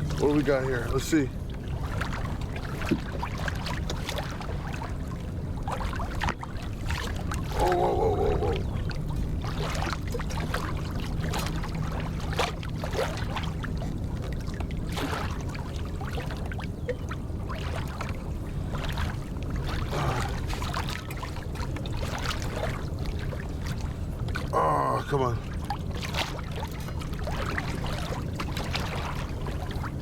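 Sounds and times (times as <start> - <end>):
low background rumble: 0.0 - 30.0
water splashing around a kayak: 0.0 - 30.0.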